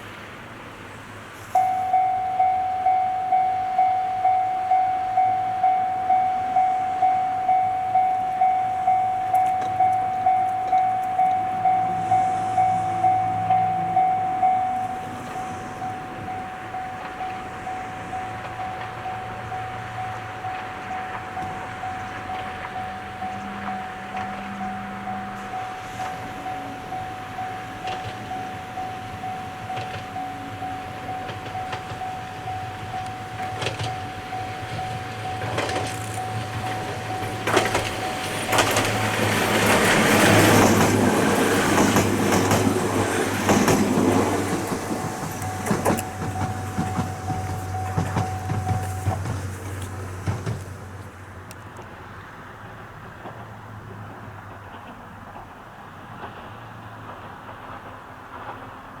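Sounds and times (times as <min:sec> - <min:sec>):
electric train passing: 0:00.0 - 0:59.0
wheels clicking over rail joints: 0:00.0 - 0:59.0
steady pulsing tone: 0:01.5 - 0:49.6.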